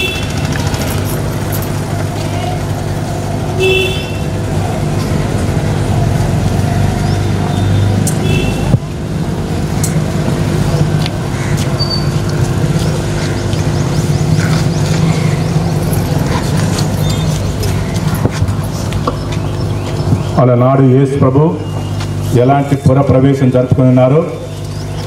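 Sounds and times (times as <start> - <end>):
low mechanical hum: 0.0 - 25.0
outdoor background noise: 0.0 - 25.0.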